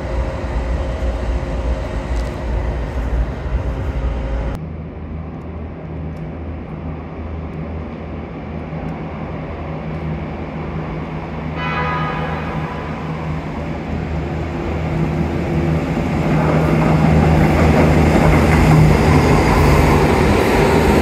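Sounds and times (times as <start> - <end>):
moving train rumble and rattle: 0.0 - 21.0
train approaching through tunnel: 0.0 - 21.0.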